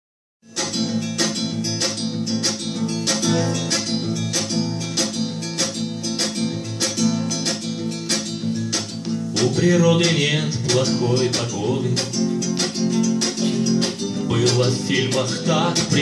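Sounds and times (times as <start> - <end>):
acoustic guitar strumming: 0.4 - 16.0.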